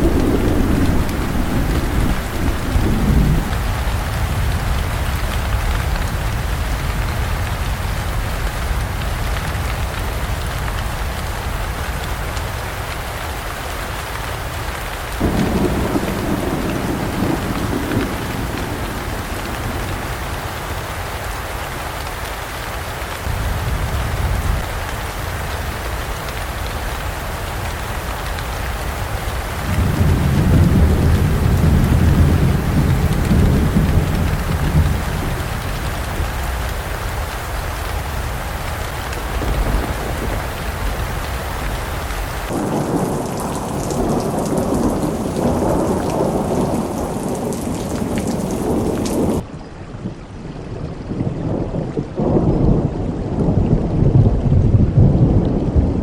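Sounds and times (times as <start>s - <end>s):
low rolls of thunder: 0.0s - 12.3s, 15.2s - 21.0s, 23.2s - 56.0s
heavy rain falling: 0.0s - 56.0s.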